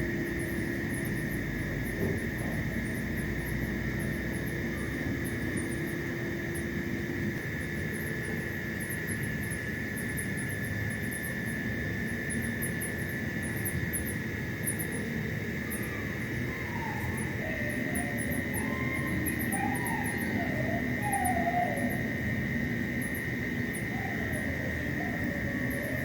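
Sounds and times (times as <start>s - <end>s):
insects chirping: 0.0s - 26.0s
shrill insect drone: 0.0s - 26.0s.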